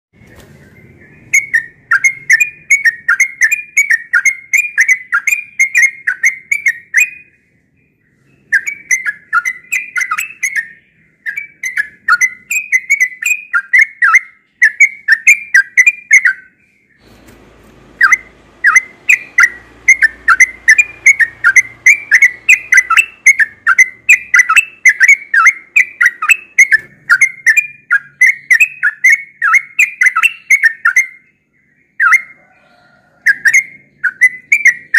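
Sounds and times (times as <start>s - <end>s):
bulbul singing whistled notes: 0.2s - 17.0s, 18.0s - 34.9s.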